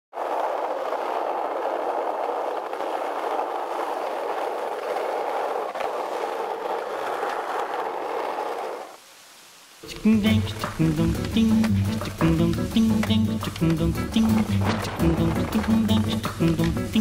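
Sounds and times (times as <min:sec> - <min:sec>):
skateboard wheels rolling on asphalt: 0:00.1 - 0:17.0.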